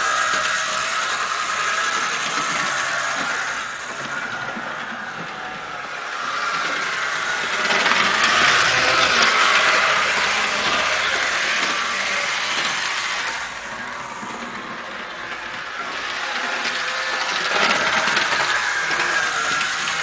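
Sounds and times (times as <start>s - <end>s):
model locomotive motor whirring: 0.0s - 20.0s.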